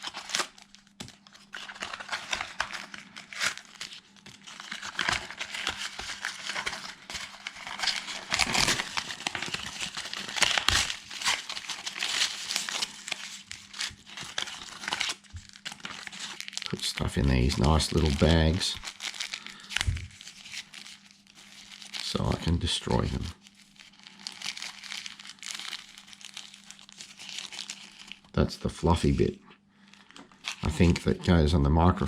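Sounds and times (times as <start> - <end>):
plastic bags crinkling and tearing: 0.0 - 28.4, 29.8 - 31.2.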